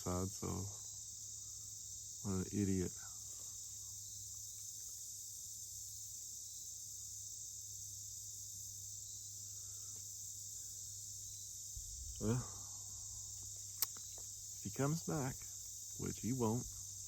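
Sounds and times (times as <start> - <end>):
crickets trilling: 0.0 - 17.0
faint low hum: 0.0 - 17.0.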